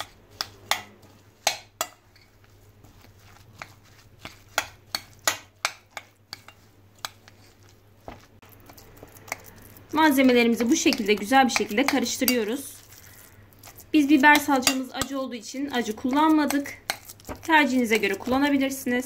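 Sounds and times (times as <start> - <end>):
spoon stirring thick mixture: 0.0 - 19.0.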